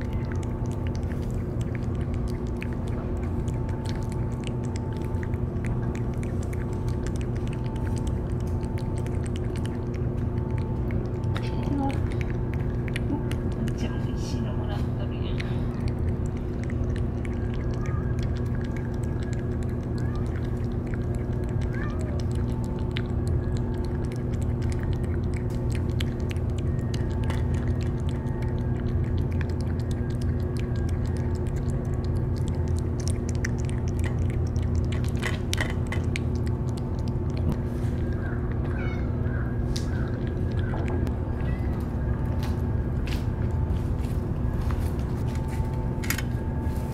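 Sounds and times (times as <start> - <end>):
cat chewing and lapping food: 0.0 - 46.9
low background rumble: 0.0 - 46.9.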